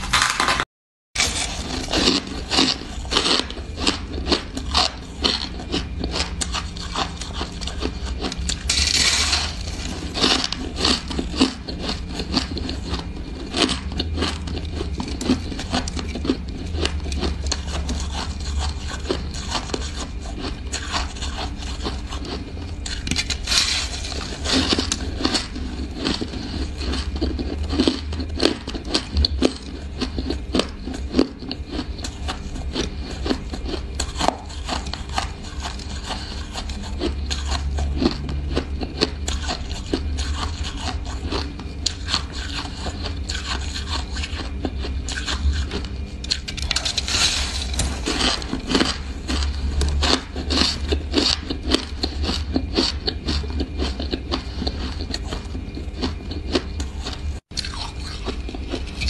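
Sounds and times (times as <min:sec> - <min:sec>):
low hum: 0:01.2 - 0:30.8, 0:31.6 - 0:59.0
chewing crunchy ice: 0:01.2 - 0:59.0.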